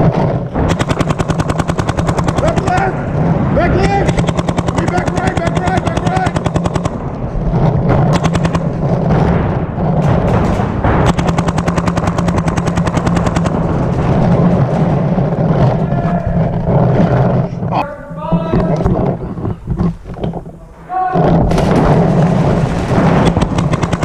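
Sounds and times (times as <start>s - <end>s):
paintball markers firing rapidly: 0.0s - 17.8s, 21.2s - 24.0s.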